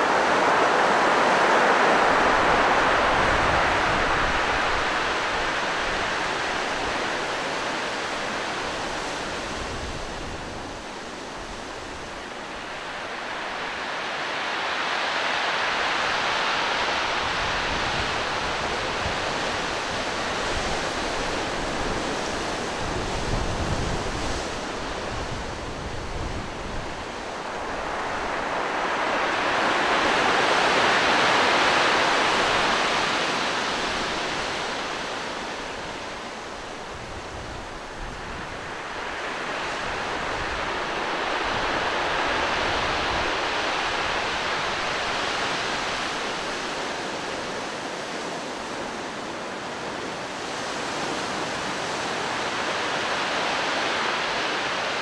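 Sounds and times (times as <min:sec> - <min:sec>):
sea surf on rocky shore: 0:00.0 - 0:55.0.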